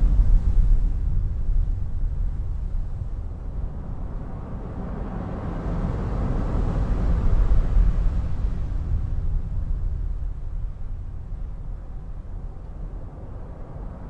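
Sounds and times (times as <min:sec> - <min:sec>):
low rumbling field noise: 0:00.0 - 0:14.0.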